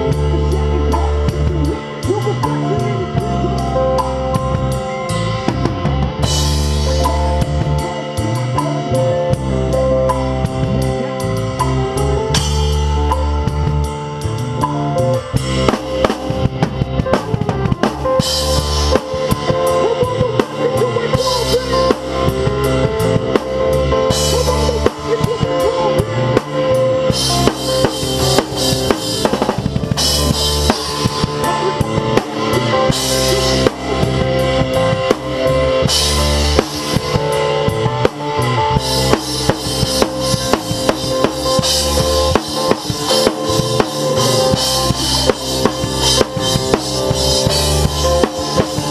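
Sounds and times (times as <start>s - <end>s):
band music with bass and guitar: 0.0s - 48.9s
drum kit playing: 0.0s - 48.9s.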